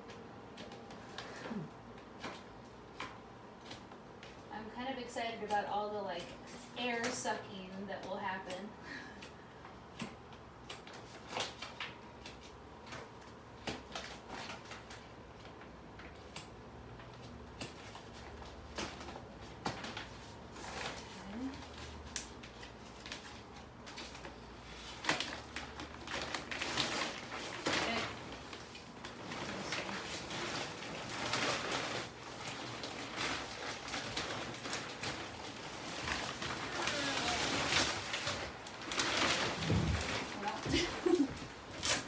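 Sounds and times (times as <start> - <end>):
plastic crinkling and rustling: 0.0 - 42.0.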